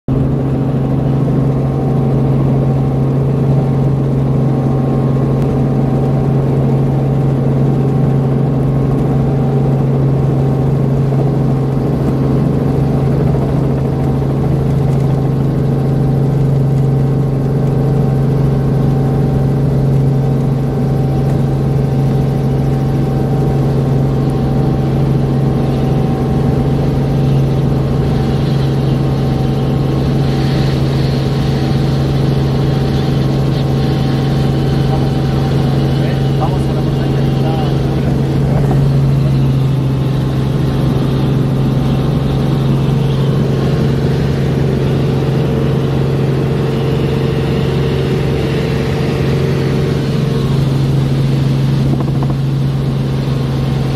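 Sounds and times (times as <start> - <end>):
helicopter engine and rotor droning: 0.1 - 53.9.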